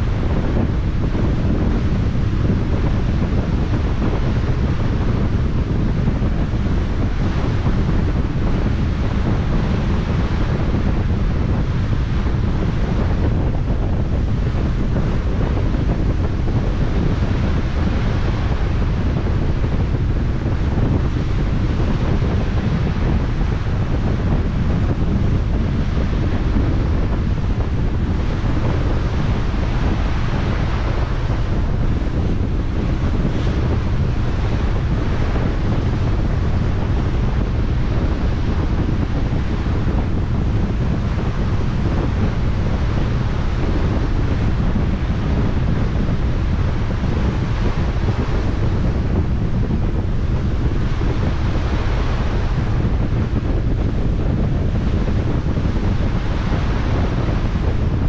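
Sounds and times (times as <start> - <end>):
low engine rumble: 0.0 - 58.0
rushing sea water: 0.0 - 58.0
wind buffeting microphone: 0.0 - 58.0.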